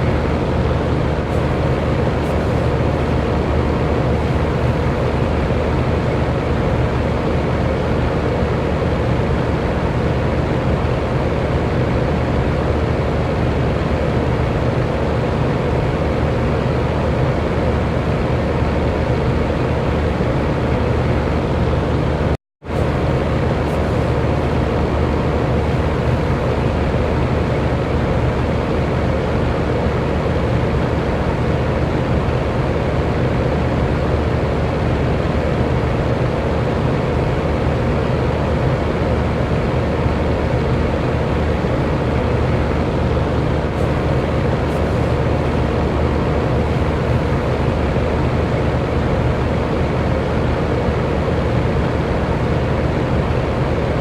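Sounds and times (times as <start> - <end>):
electric fan rushing air: 0.0 - 54.0
faint motor hum: 0.0 - 54.0.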